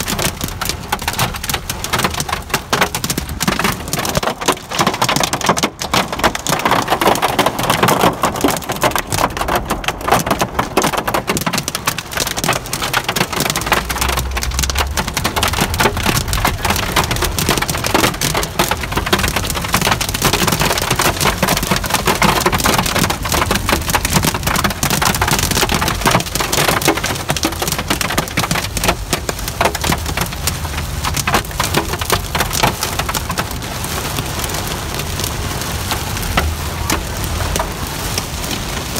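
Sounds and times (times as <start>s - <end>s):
heavy rain on car roof: 0.0s - 38.9s.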